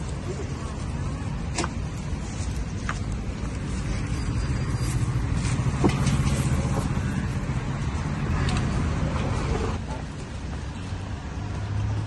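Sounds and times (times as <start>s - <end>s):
road traffic rumble: 0.0s - 12.0s
vehicle passing: 2.0s - 12.0s.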